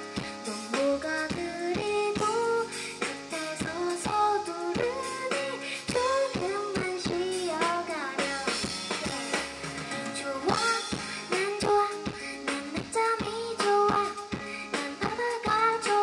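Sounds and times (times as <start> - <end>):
drum beat: 0.0 - 16.0
keyboard playing: 0.0 - 16.0
woman singing: 0.1 - 16.0.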